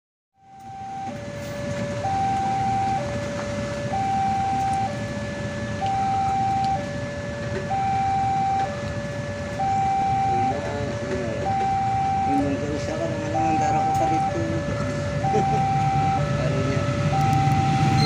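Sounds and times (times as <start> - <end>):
two-tone crossing alarm: 0.4 - 18.0
motorcycle engines idling: 1.2 - 18.0.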